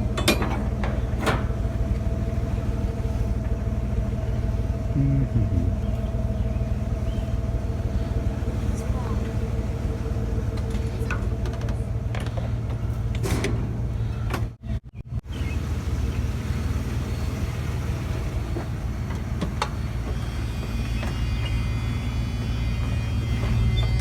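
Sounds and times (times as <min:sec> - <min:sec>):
motor vehicle engine rumbling: 0:00.0 - 0:24.0.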